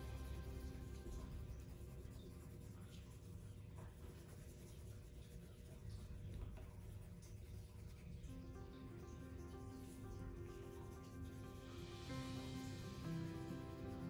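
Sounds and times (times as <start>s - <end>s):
pencil scratching on paper: 0.0s - 8.2s, 9.8s - 14.0s.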